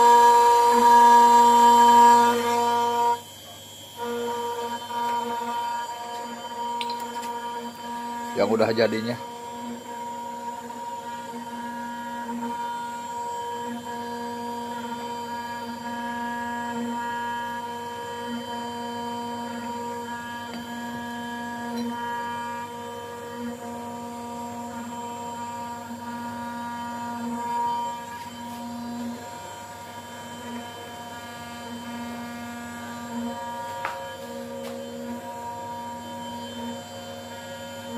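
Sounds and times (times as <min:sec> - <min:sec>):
electrical machine hum: 0:00.0 - 0:37.9
router whining: 0:00.0 - 0:37.9.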